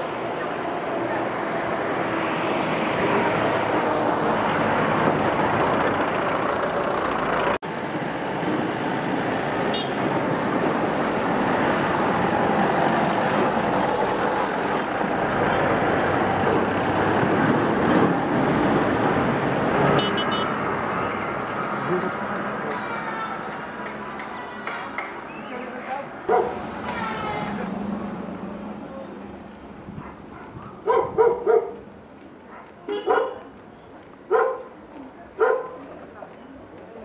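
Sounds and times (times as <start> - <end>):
passing vehicles: 0.0 - 37.0.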